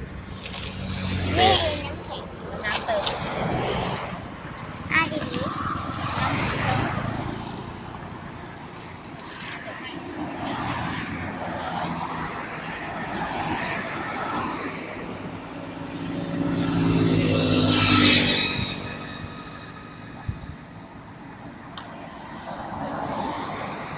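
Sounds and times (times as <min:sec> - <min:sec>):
road traffic: 0:00.0 - 0:23.9.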